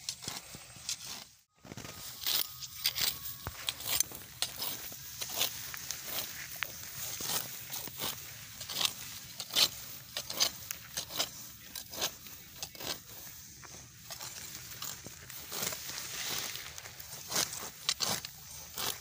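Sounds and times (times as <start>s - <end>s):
grass rustling: 0.0s - 19.0s
sickle cutting grass: 0.0s - 19.0s.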